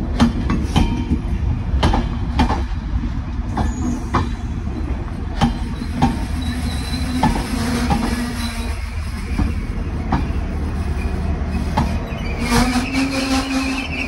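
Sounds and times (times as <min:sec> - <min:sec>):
train coaches rumbling past: 0:00.0 - 0:14.0
wheels clacking over rail joints: 0:00.0 - 0:14.0.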